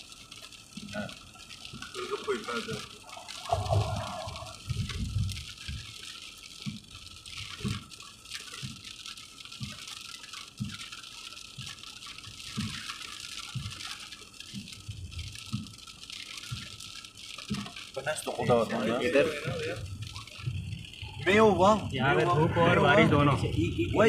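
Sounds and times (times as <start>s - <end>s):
rain on car windshield: 0.0s - 24.0s.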